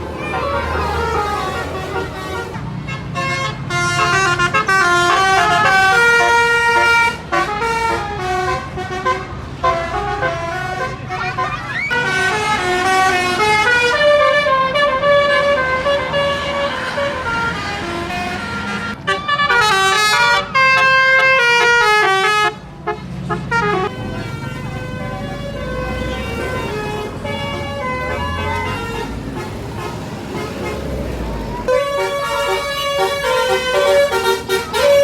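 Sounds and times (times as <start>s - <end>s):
bus horns playing tunes: 0.0s - 35.0s.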